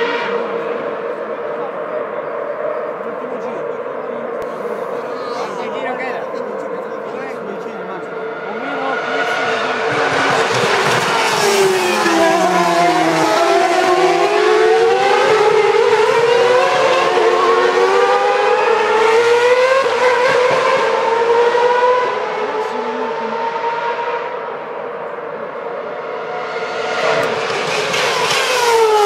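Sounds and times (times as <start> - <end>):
racing cars passing at high revs: 0.0 - 29.0.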